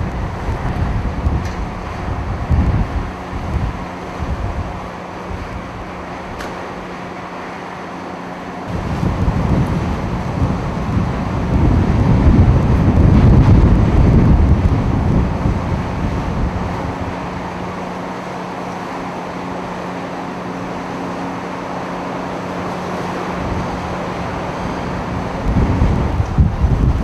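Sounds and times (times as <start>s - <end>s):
wind buffeting microphone: 0.0s - 7.0s, 8.7s - 27.0s
low hum: 0.0s - 27.0s.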